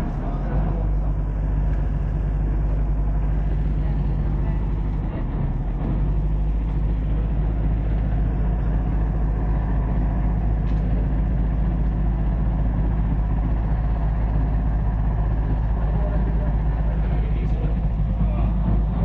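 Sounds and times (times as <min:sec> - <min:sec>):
boat engine droning: 0:00.0 - 0:19.0
wind: 0:00.0 - 0:19.0.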